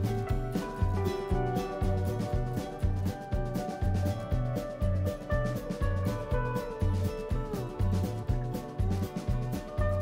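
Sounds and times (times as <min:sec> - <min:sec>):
music with bass and steady beat: 0:00.0 - 0:10.0.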